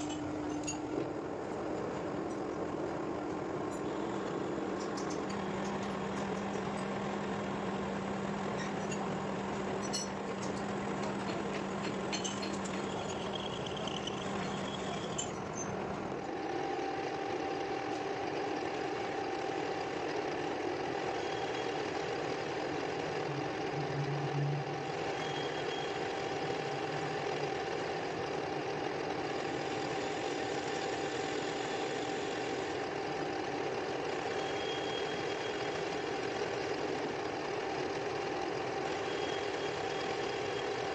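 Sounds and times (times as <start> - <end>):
metal lathe humming: 0.0 - 40.9.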